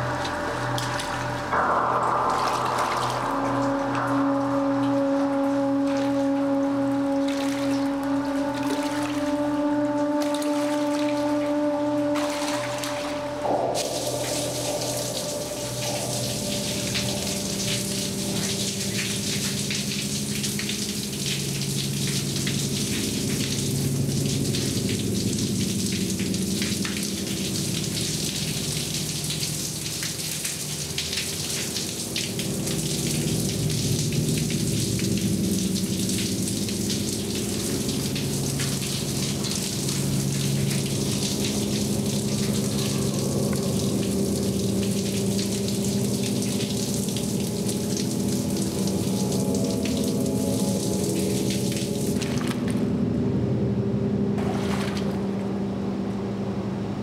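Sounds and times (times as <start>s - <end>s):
low droning hum: 0.0s - 57.0s.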